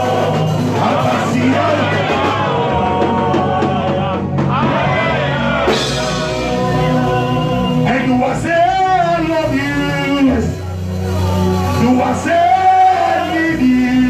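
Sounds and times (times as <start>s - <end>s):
worship music with singing: 0.0s - 14.0s.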